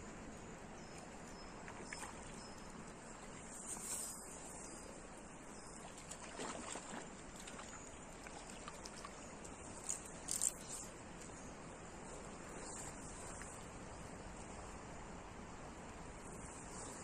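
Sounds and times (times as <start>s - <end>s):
river water running: 0.0s - 17.0s.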